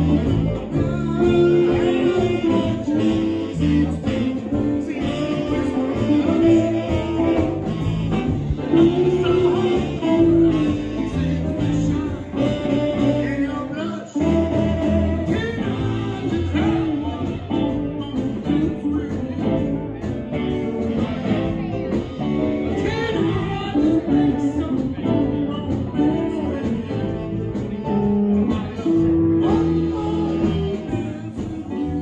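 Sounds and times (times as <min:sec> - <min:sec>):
live band playing: 0:00.0 - 0:32.0
man singing: 0:00.0 - 0:32.0.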